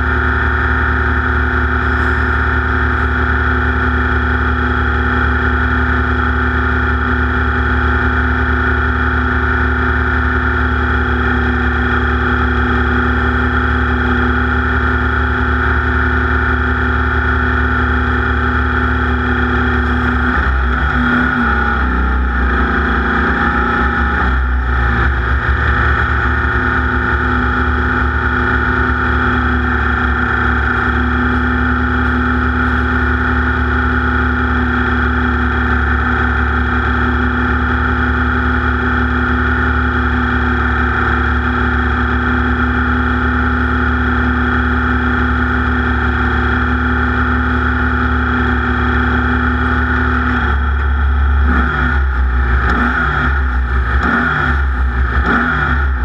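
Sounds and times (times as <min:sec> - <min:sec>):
race car engine revving: 0:00.0 - 0:06.2, 0:10.8 - 0:56.0.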